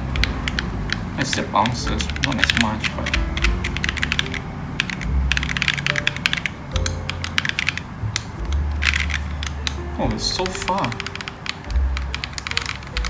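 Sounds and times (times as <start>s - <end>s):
mechanical keyboard keystrokes: 0.2s - 9.8s, 10.4s - 13.0s.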